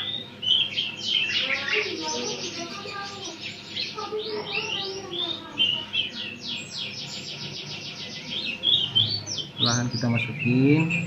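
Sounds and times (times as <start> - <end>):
sparrow chirping: 0.0 - 11.0.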